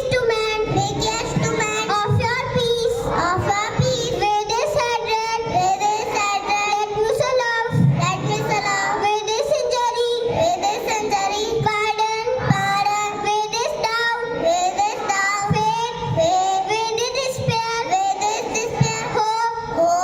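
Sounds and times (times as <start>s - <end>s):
young children singing: 0.0s - 20.0s.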